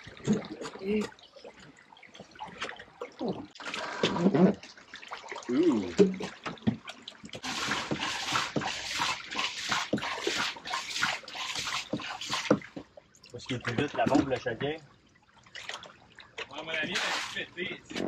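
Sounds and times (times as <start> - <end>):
liquid gushing and splashing: 0.0 - 14.4, 15.6 - 17.7.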